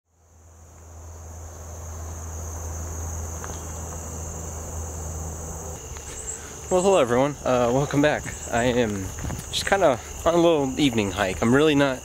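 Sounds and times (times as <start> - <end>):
chorus of insects: 0.1 - 12.0.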